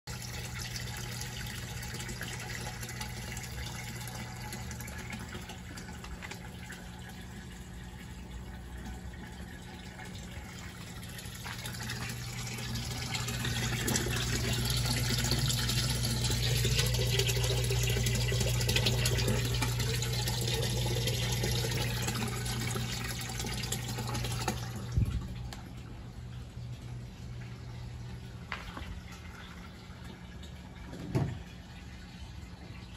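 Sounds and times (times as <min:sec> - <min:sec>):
water pump humming: 0:00.1 - 0:32.9
water splashing in tank: 0:00.1 - 0:32.9.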